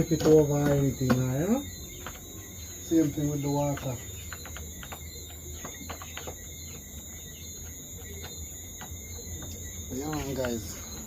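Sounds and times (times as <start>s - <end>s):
bird chirps: 0.0s - 11.0s
insect trilling: 0.0s - 11.0s.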